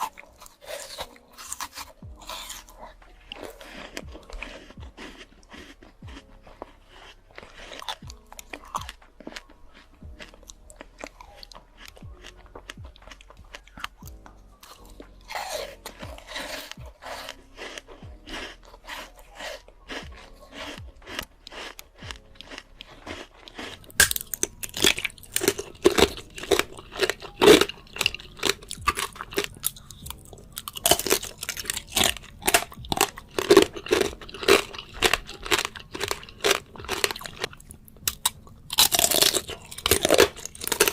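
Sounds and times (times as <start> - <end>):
crunchy fruit chewing: 0.0 - 40.9.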